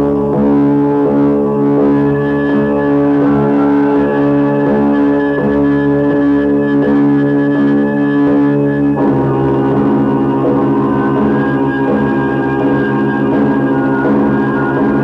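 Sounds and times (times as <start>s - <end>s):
instrumental dance music: 0.2s - 15.0s.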